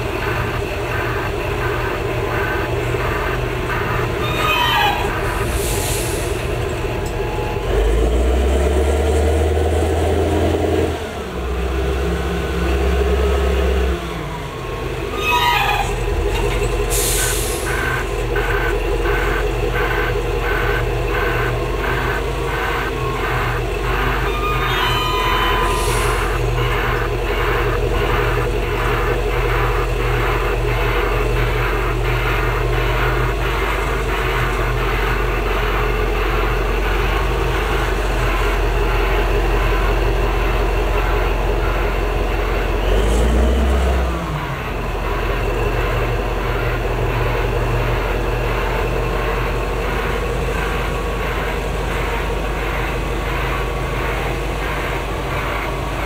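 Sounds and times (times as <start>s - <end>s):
reversing alarm beeping: 0.0s - 10.9s, 12.4s - 56.0s
heavy diesel engine running: 0.0s - 56.0s.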